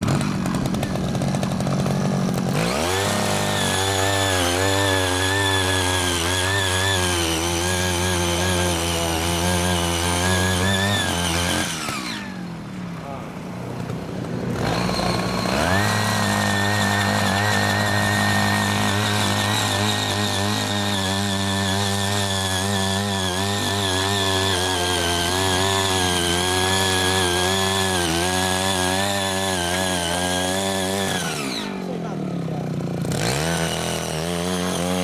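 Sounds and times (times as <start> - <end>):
small petrol engine revving: 0.0 - 35.0
tiller tines cutting soil: 0.0 - 35.0.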